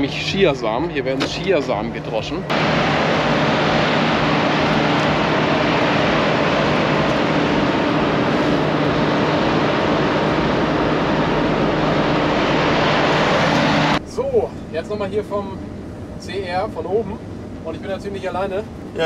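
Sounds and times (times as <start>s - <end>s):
combine harvester running: 1.2s - 19.0s.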